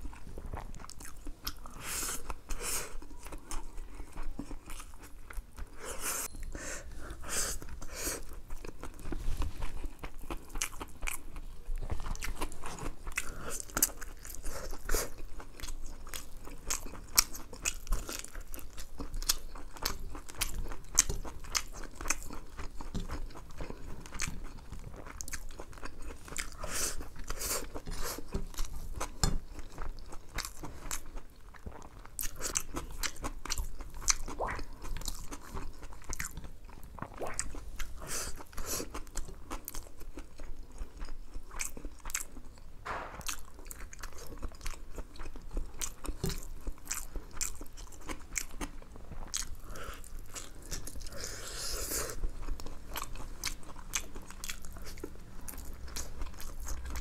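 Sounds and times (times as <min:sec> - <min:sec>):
man chewing with wet mouth sounds: 0:00.0 - 0:57.0.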